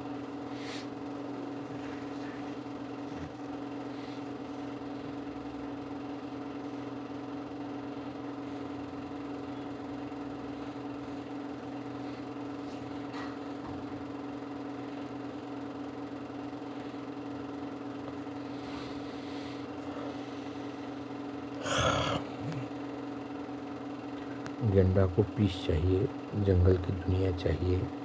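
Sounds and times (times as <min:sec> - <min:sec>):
electrical hum with hiss: 0:00.0 - 0:28.0.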